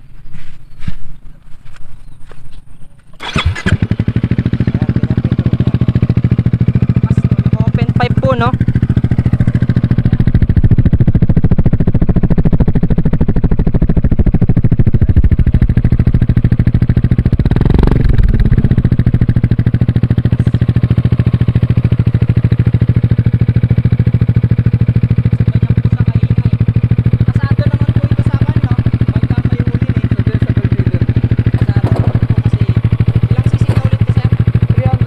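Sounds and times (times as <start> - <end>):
scooter engine idling: 2.9 - 35.0.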